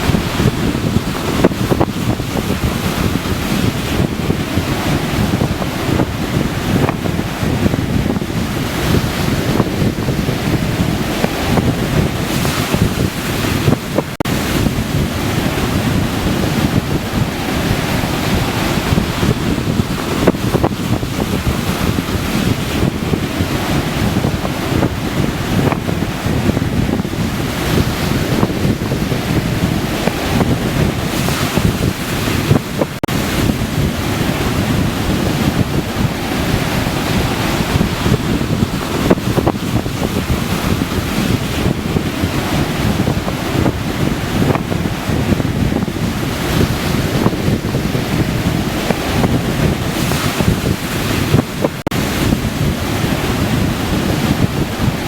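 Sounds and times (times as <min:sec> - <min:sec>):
surf washing onto beach: 0:00.0 - 0:55.0
wind buffeting microphone: 0:00.0 - 0:55.0.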